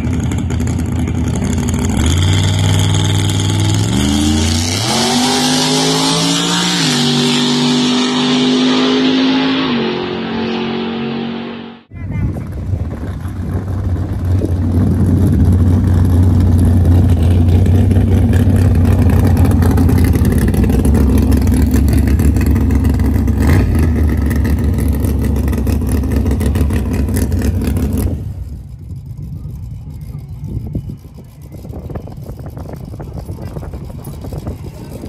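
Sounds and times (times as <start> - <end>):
engine at full throttle: 0.0 - 35.0.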